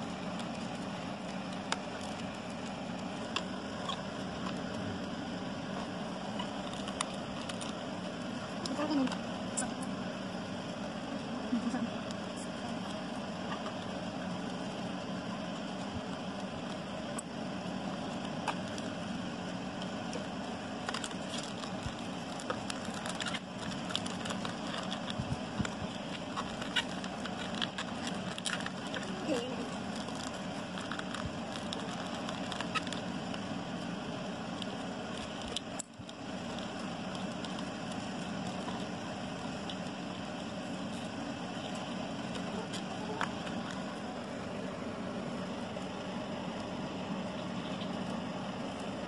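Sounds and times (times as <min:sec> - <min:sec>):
background hum: 0:00.0 - 0:49.0
cardboard and paper crinkling: 0:00.0 - 0:49.0
steady background noise: 0:00.0 - 0:49.0.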